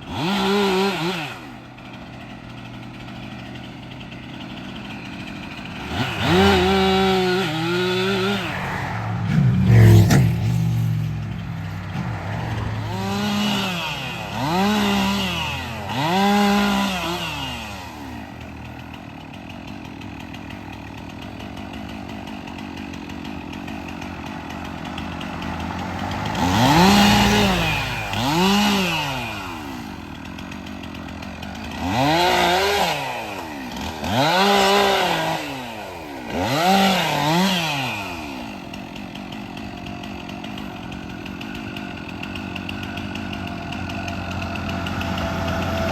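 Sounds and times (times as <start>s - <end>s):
chainsaw idling: 0.0s - 45.9s
chainsaw revving and cutting: 0.0s - 45.9s.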